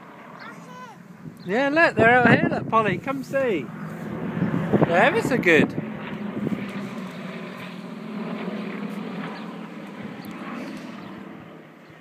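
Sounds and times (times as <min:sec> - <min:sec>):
aircraft engines humming overhead: 0:00.0 - 0:12.0.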